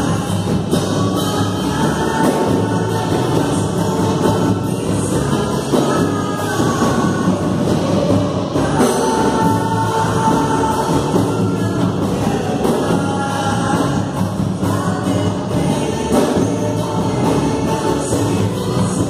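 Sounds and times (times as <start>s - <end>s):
bass drum: 0.0s - 19.0s
guitar: 0.0s - 19.0s
voices singing: 0.0s - 19.0s.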